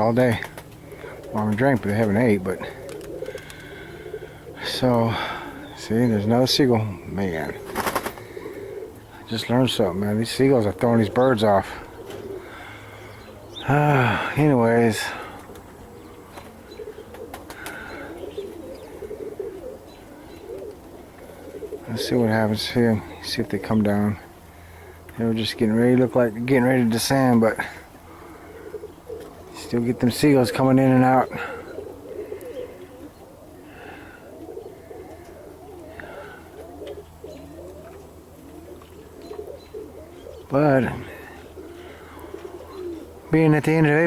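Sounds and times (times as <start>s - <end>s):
pigeons cooing: 0.0s - 44.0s.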